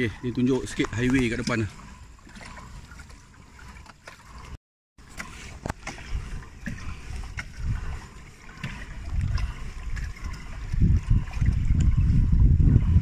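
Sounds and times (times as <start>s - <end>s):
water sloshing against hull: 0.0s - 13.0s.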